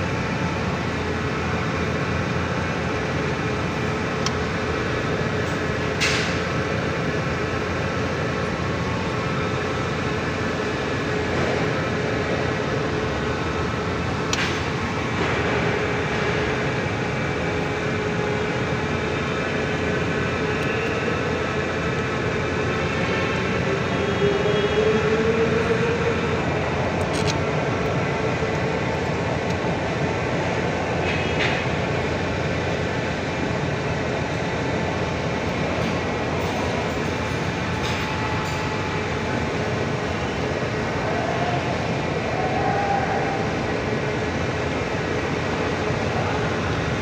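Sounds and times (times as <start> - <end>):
forklift engine running: 0.0 - 42.4.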